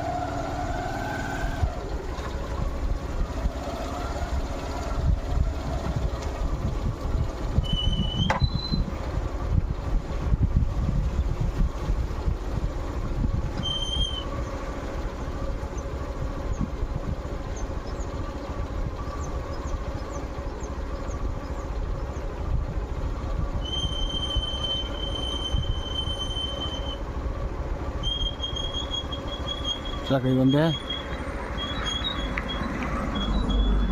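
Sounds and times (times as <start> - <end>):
moving vehicle rumble: 0.0 - 33.9.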